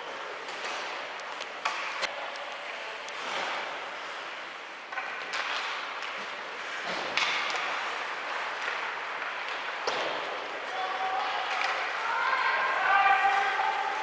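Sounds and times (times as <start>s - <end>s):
crowd and skating hum: 0.0s - 14.0s.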